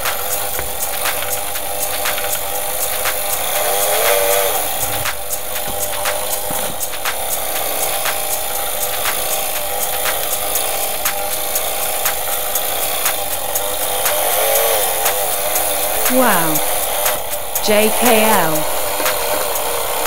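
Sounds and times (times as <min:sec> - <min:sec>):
hand mixer motor whine: 0:00.0 - 0:20.0.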